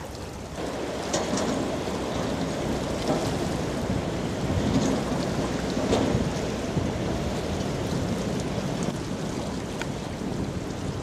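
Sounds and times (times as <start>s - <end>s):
wake wave washing on riverbank: 0.0s - 11.0s
water splashes: 0.0s - 11.0s.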